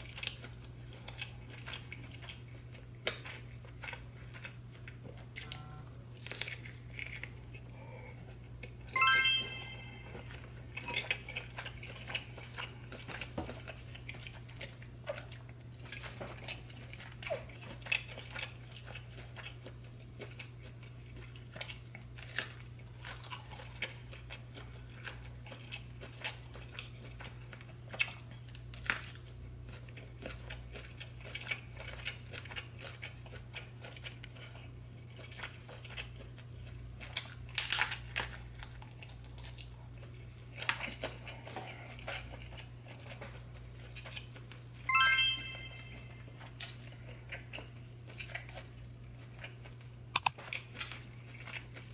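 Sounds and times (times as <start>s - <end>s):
chewing and crunching seafood: 0.0s - 8.9s, 10.6s - 44.9s, 46.4s - 51.9s.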